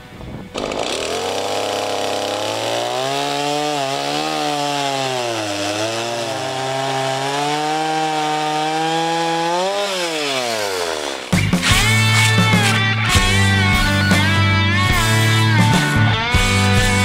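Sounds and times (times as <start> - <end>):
chainsaw cutting wood: 0.5 - 17.0.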